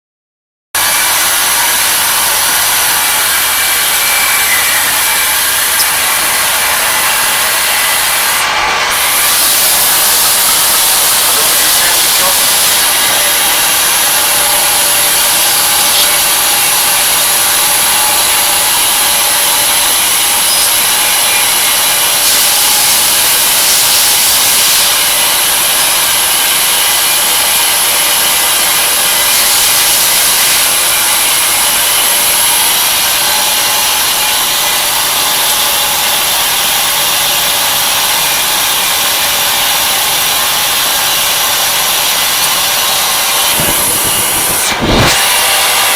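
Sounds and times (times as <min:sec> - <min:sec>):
milling machine cutting metal: 0:00.8 - 0:45.9.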